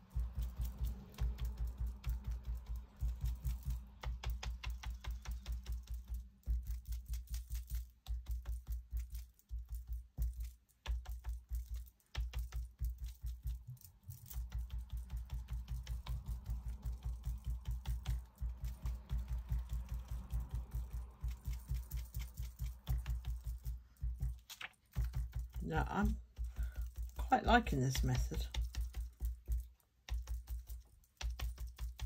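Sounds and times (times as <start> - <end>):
applicator tapping on paper: 0.0 - 32.0.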